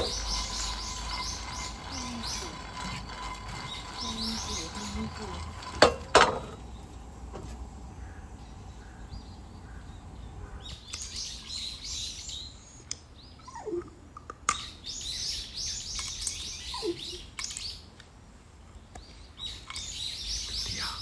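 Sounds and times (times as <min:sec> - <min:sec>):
small birds twittering: 0:00.0 - 0:05.9, 0:06.5 - 0:13.9, 0:14.5 - 0:21.0.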